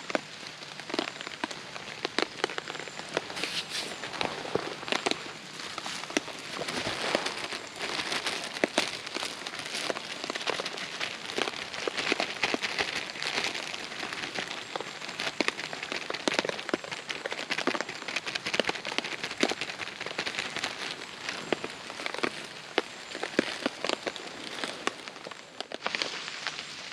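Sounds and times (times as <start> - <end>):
heavy rain on a tarp: 0.0 - 26.9.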